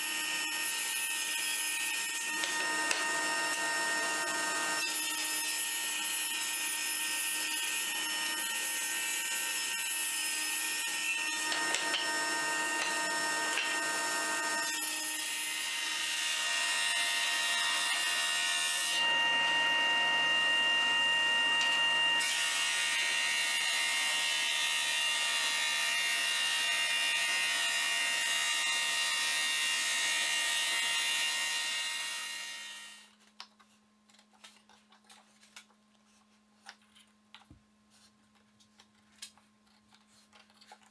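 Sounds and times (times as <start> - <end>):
table saw ripping a board: 0.2 - 33.1.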